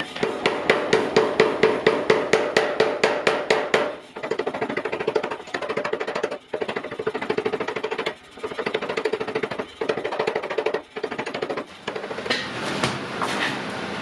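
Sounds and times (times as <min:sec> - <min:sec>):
power hammer striking hot iron: 0:00.2 - 0:12.5.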